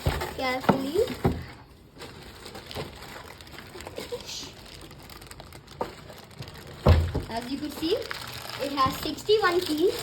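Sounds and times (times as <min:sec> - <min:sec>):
plastic wrapper rustling and crinkling: 0:00.0 - 0:10.0.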